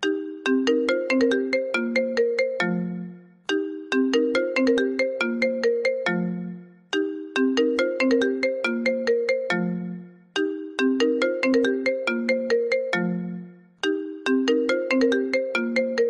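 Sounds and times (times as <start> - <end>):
marimba-like phone ringtone: 0.0 - 16.0.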